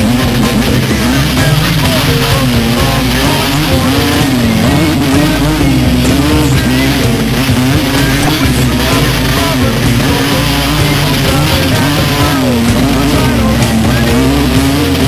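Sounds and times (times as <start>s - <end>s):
rock music: 0.0s - 15.0s
vehicle engine and road noise: 0.0s - 15.0s.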